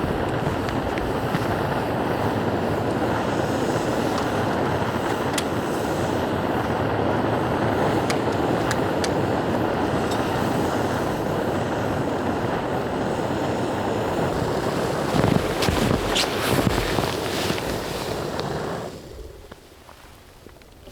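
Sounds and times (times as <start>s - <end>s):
gas stove burner roaring: 0.0s - 19.7s.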